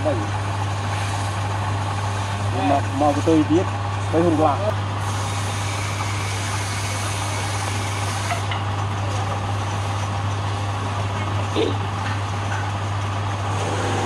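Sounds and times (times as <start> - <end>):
lathe motor humming: 0.0 - 14.0.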